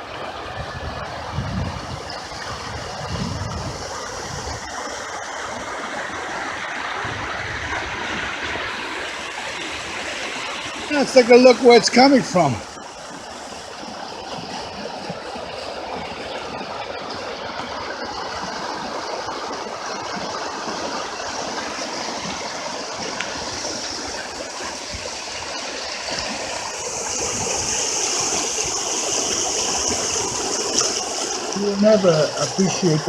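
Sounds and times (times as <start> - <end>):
floodwater rushing: 0.0 - 33.0.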